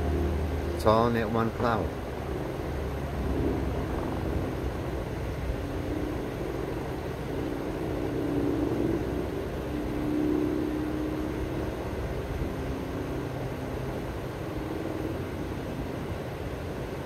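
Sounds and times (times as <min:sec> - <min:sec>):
distant engine drone: 0:00.0 - 0:17.0.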